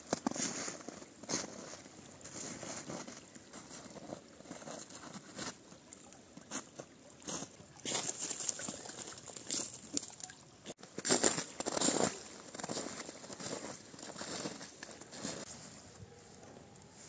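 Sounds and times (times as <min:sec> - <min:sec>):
crackles and crunches: 0:00.0 - 0:17.0
creek water trickling: 0:00.0 - 0:17.0.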